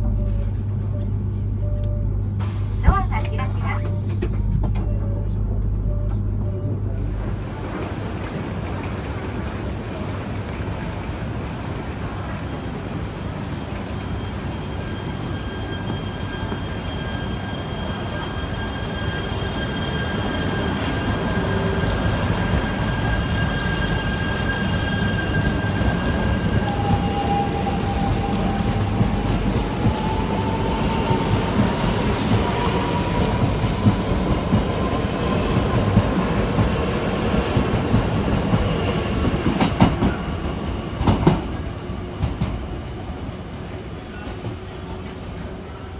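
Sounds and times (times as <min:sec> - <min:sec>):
rumble of passing train cars: 0:00.0 - 0:45.9
train inverter whine: 0:00.0 - 0:45.9.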